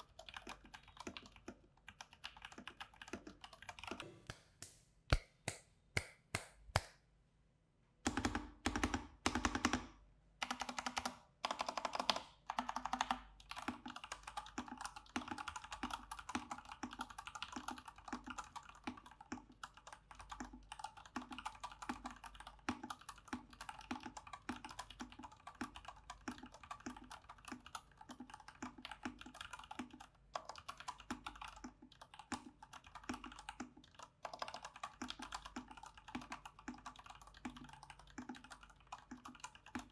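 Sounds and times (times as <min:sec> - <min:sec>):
typing on mechanical keyboard: 0:00.0 - 0:04.0, 0:08.1 - 0:39.9.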